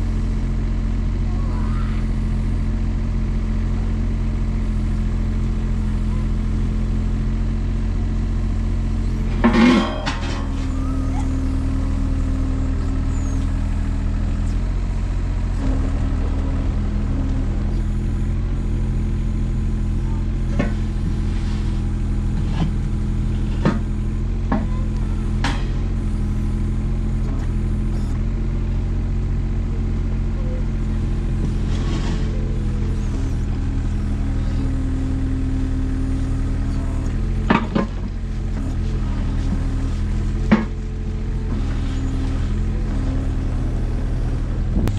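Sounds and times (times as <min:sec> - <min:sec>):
excavator diesel engine running: 0:00.0 - 0:44.9
hydraulics working: 0:00.0 - 0:44.9.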